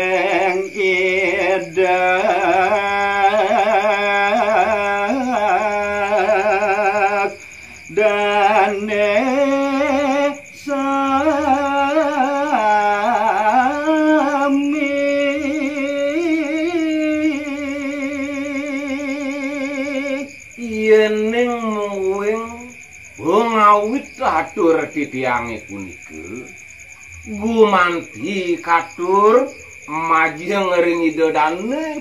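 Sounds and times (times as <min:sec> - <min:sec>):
man singing unaccompanied: 0:00.0 - 0:32.0.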